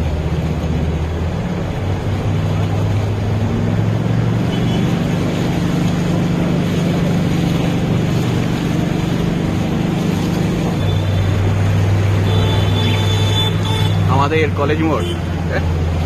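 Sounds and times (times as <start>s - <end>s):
bus engine humming: 0.0s - 16.0s
heavy rain on wet road: 0.0s - 16.0s.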